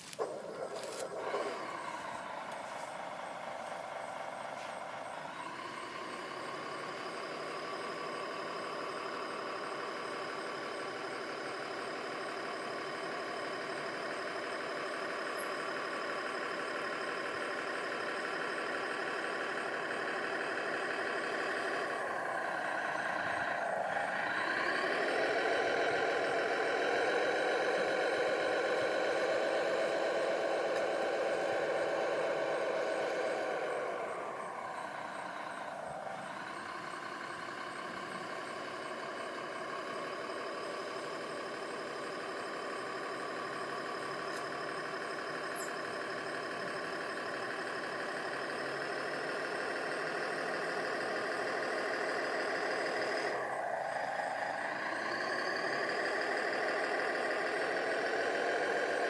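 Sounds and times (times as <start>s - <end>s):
model motors whining: 0.0s - 59.0s.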